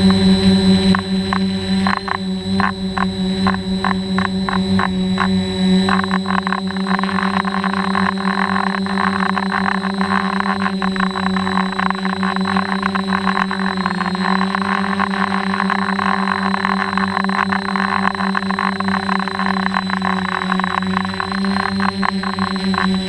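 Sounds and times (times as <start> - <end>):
drone motors humming and whining: 0.0 - 23.0.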